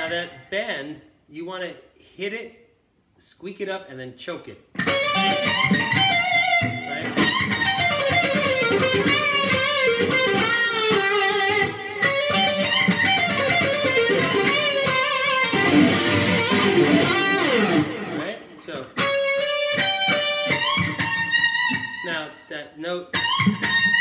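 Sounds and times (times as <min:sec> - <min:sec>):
electric guitar blues lick: 0:04.7 - 0:24.0.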